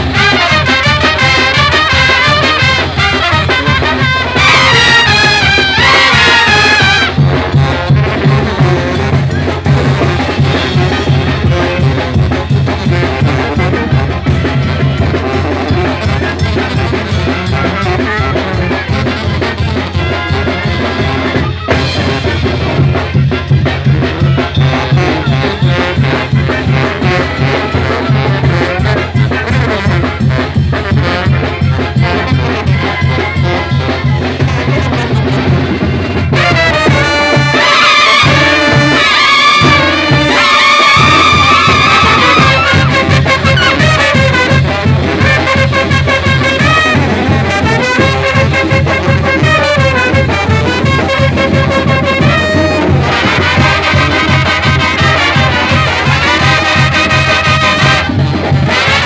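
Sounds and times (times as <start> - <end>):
brass band playing dance tune: 0.0 - 59.0
driving drum beat: 0.0 - 59.0.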